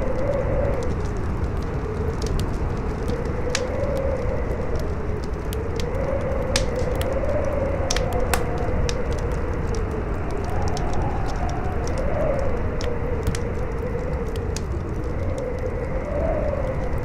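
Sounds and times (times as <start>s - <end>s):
howling wind: 0.0s - 17.0s
low wind rumble: 0.0s - 17.0s
wood fire crackling: 0.0s - 17.0s.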